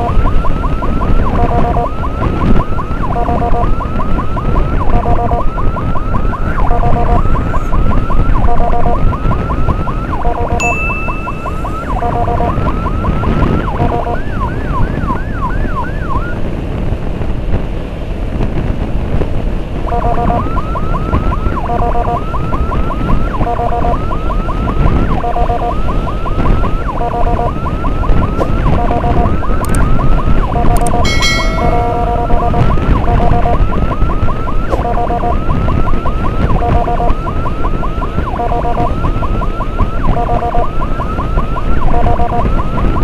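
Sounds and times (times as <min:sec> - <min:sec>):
electronic emergency siren: 0:00.0 - 0:16.5, 0:19.8 - 0:43.0
road and wind rumble: 0:00.0 - 0:43.0.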